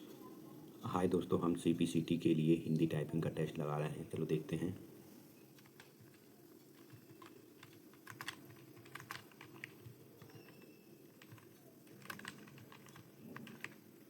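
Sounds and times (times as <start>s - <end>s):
low steady background hum: 0.0s - 14.0s.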